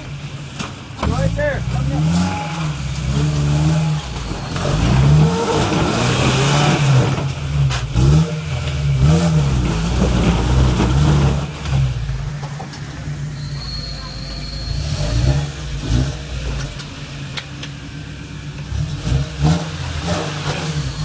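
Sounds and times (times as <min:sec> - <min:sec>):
truck engine revving under load: 0:00.0 - 0:21.0.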